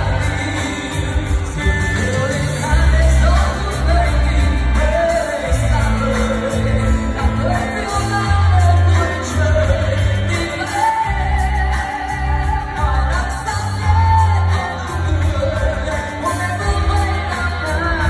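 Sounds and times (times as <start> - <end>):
live band through loud pa: 0.0 - 18.0
man singing pop song: 0.0 - 18.0.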